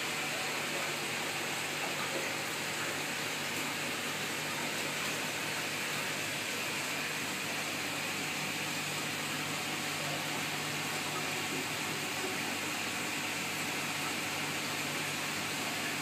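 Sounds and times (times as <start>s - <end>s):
aquarium pump hiss and hum: 0.0s - 16.0s
circulating water: 0.0s - 16.0s.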